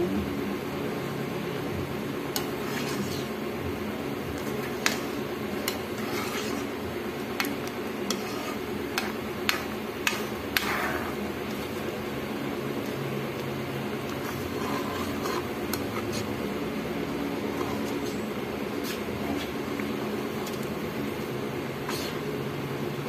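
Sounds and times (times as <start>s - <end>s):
syrup boiling: 2.3s - 22.4s.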